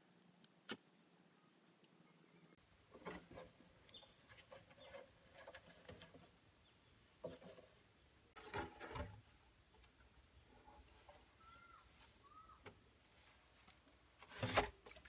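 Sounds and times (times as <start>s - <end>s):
rustles: 2.8s - 15.0s.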